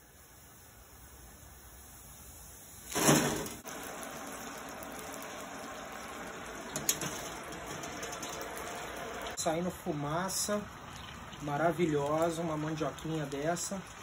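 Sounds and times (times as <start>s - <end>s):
deep-frying sizzling and bubbling: 0.0s - 14.0s.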